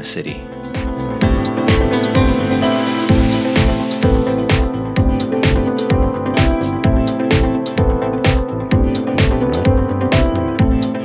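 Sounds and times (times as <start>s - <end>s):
background music with drum beat: 0.7s - 11.0s.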